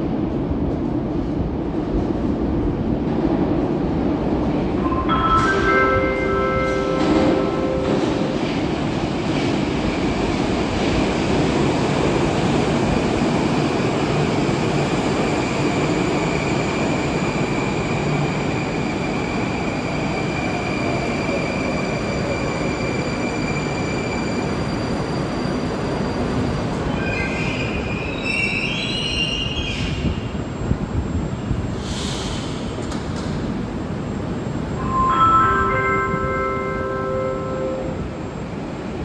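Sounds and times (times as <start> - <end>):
train wheels rolling on rail: 0.0 - 34.8.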